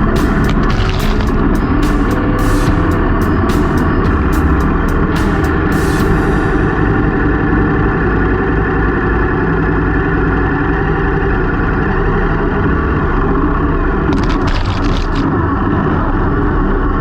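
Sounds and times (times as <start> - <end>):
motorcycle engine running steadily: 0.0 - 15.3.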